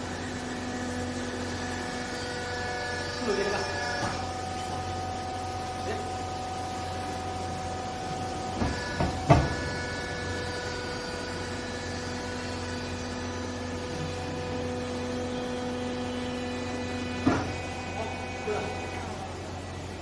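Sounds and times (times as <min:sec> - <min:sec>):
baling machine humming: 0:00.0 - 0:20.0.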